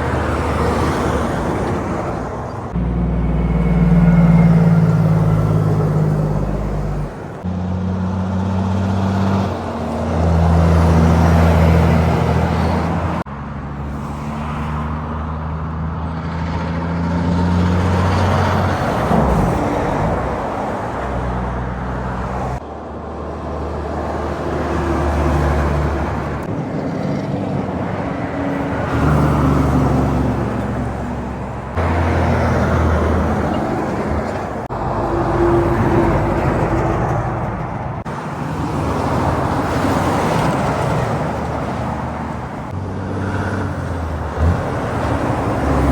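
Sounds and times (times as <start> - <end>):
heavy trucks driving past: 0.0 - 45.9.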